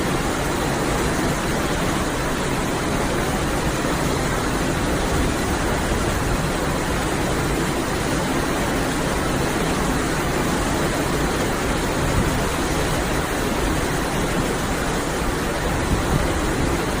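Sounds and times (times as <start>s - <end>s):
boat engine: 0.0s - 17.0s
water rushing past boat: 0.0s - 17.0s
wind: 0.0s - 17.0s.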